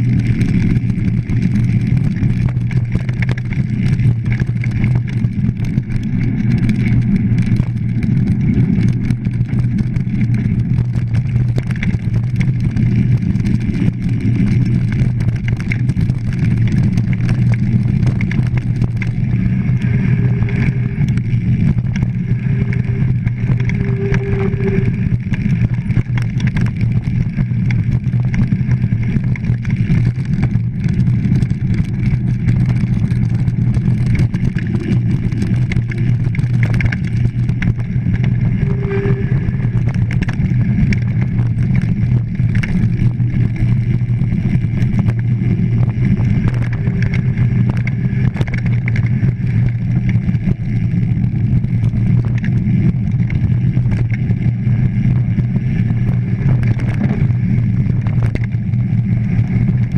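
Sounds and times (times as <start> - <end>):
wind and trail vibration rumble: 0.0 - 59.9.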